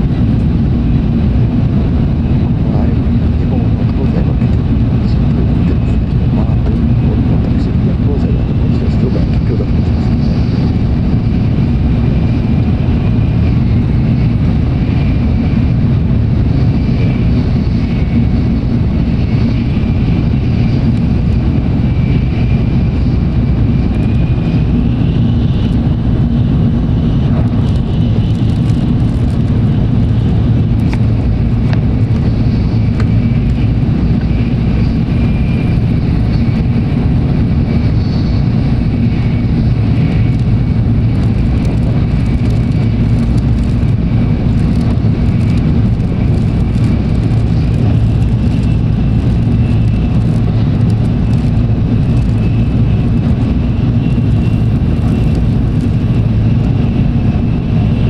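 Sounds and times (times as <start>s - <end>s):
train rumble inside passenger car: 0.0s - 58.0s.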